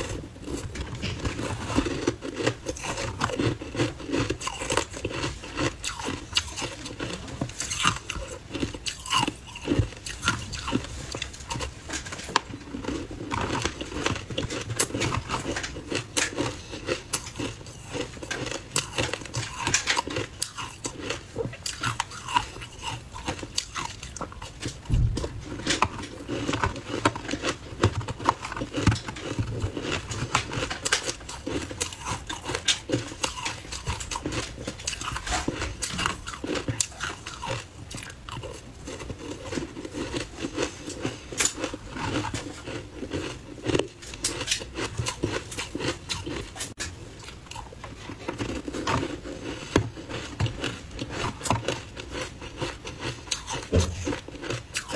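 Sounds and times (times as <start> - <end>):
crunching and chewing ice: 0.0 - 54.9.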